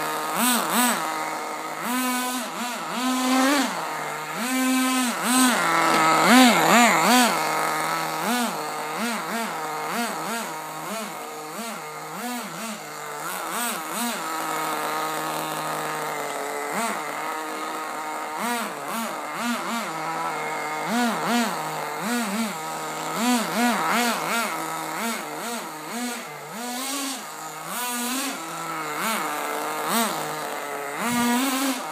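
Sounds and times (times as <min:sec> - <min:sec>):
small engine revving: 0:00.0 - 0:31.9.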